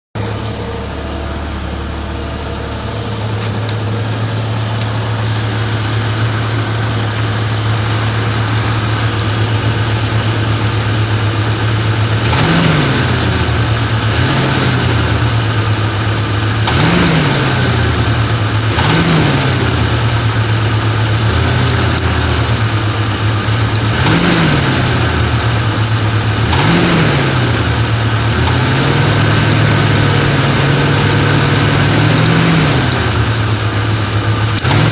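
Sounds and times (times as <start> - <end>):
engine revving: 0.2 - 34.9.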